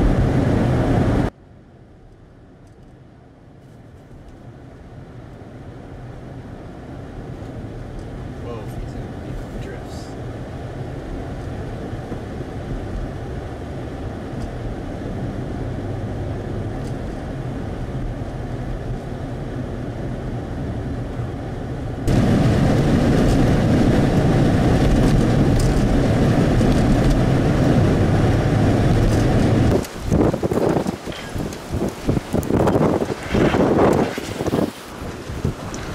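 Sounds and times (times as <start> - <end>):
road and engine noise inside vehicle: 0.0 - 35.9.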